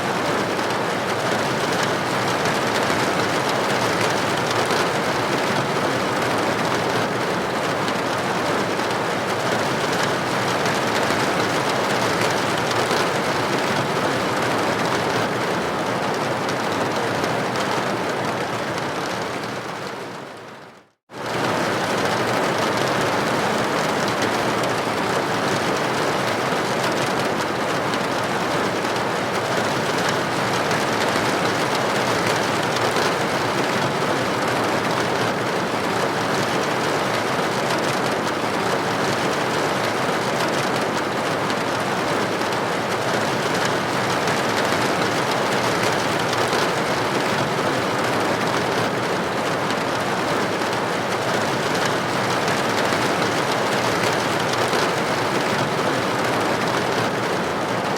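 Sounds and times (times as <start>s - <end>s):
rain on a window: 0.0s - 57.9s.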